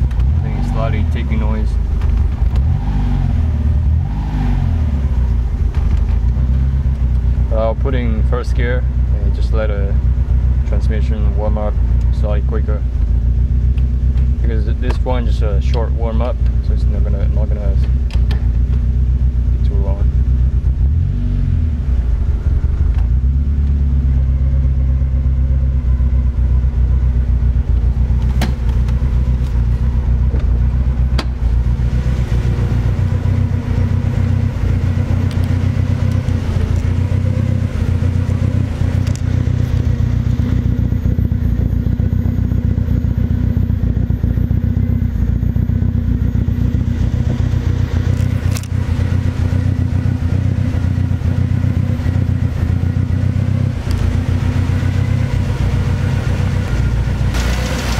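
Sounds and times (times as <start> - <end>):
engine ticking: 0.0 - 2.9, 5.4 - 20.9, 21.8 - 57.9
car engine idling: 0.0 - 57.9.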